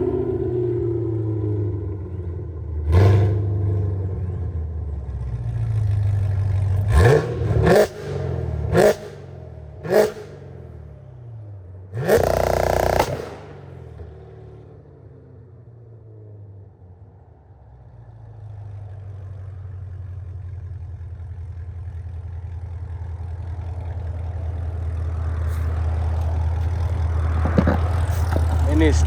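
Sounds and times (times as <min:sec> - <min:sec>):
car engine revving: 0:00.0 - 0:16.8, 0:17.6 - 0:29.0
low engine rumble: 0:00.0 - 0:29.0.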